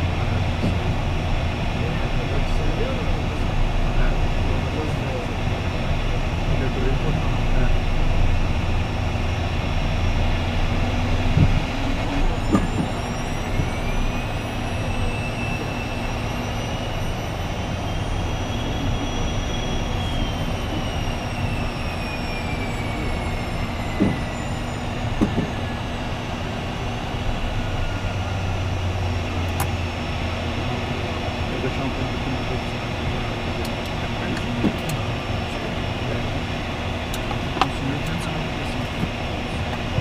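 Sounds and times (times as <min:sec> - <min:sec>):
jet engine rumble and whine: 0:00.0 - 0:40.0.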